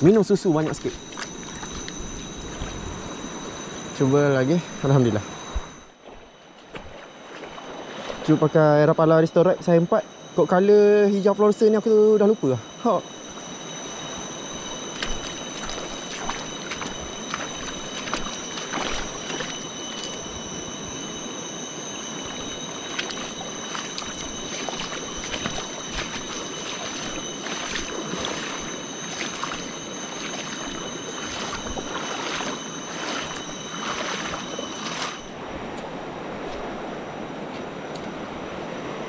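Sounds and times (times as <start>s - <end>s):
thin high whine: 0.0s - 39.0s.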